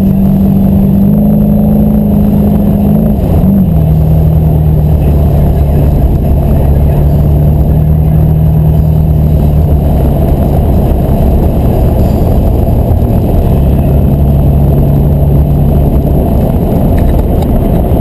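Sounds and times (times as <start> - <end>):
car engine cruising: 0.0 - 18.0
road and wind noise: 0.0 - 18.0.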